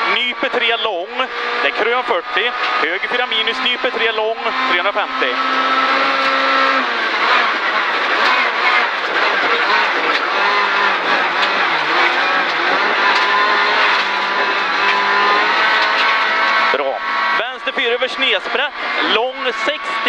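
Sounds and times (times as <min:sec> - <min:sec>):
car engine running hard: 0:00.0 - 0:20.0
tyres on gravel: 0:00.5 - 0:20.0.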